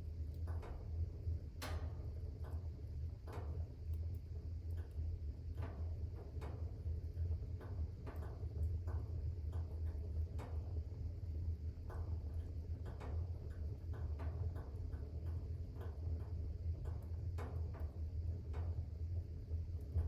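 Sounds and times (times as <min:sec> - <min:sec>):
fire low rumble: 0:00.0 - 0:20.0
wood fire crackling: 0:00.0 - 0:20.0.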